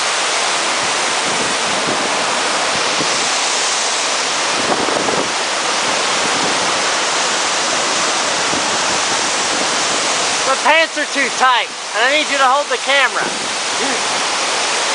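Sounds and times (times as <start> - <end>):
waterfall roaring: 0.0 - 14.9.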